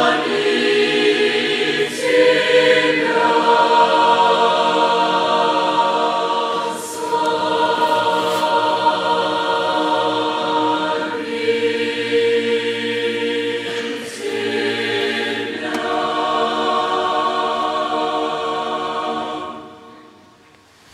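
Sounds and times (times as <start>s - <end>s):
choir singing held chords: 0.0s - 20.4s.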